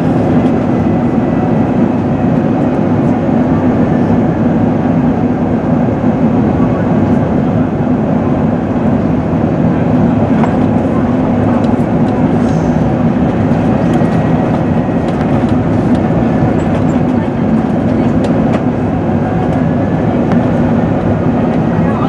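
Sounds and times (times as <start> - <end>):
airplane cabin drone: 0.0 - 22.0
steady low hum: 0.0 - 22.0.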